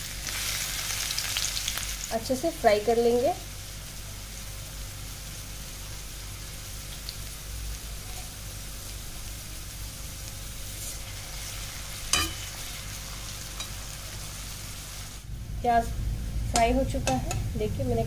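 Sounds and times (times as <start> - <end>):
onion sizzling in hot oil: 0.0 - 18.0.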